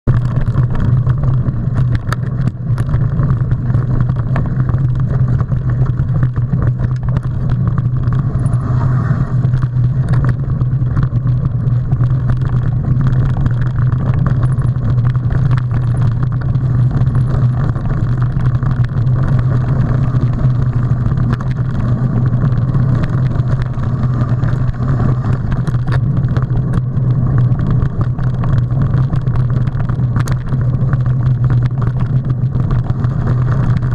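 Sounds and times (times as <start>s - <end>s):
wind and tyres rumbling: 0.0s - 33.9s
bike knocking and rattling: 0.1s - 33.9s.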